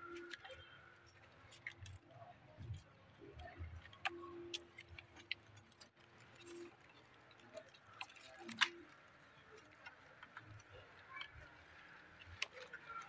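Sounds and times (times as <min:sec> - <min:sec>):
guinea pigs chewing lettuce: 0:00.0 - 0:13.0.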